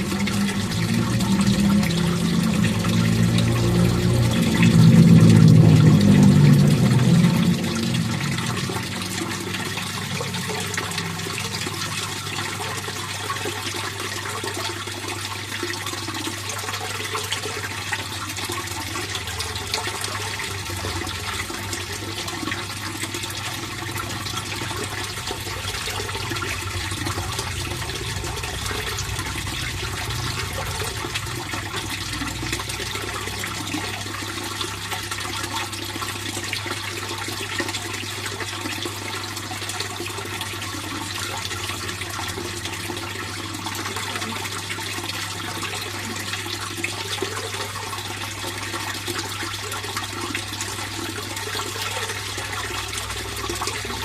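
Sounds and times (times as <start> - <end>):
water flowing into pond: 0.0 - 54.0.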